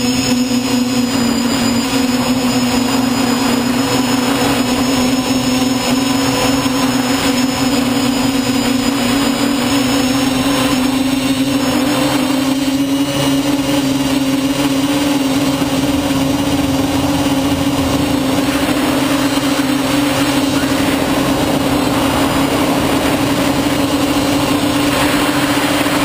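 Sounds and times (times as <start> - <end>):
quadcopter motors buzzing whine: 0.0 - 26.0.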